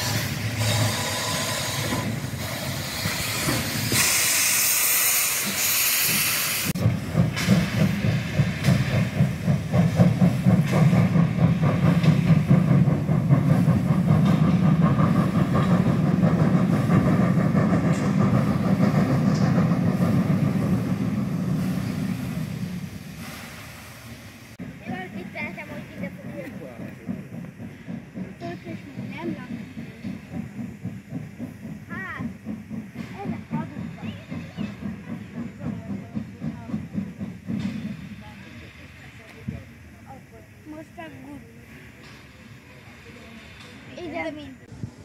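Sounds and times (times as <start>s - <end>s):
steam locomotive hissing steam: 0.0s - 45.0s.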